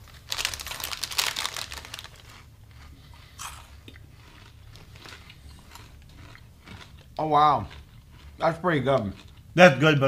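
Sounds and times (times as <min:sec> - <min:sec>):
plastic snack bag crinkling: 0:00.0 - 0:08.3
crunchy chewing: 0:00.3 - 0:09.6.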